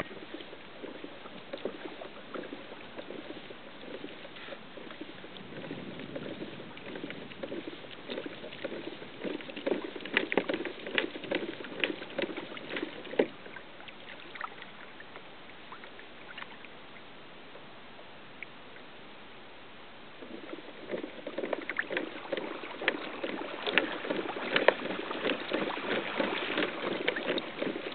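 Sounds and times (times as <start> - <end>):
water wash: 0.0 - 16.5, 20.2 - 27.9
water slapping against hull: 0.0 - 16.8, 20.2 - 27.9
paddle splashing: 0.0 - 17.6, 20.0 - 27.9.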